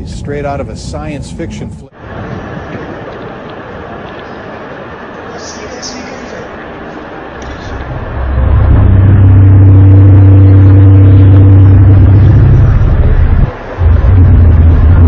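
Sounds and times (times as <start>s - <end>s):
low trumpet-like drone: 2.0s - 15.0s.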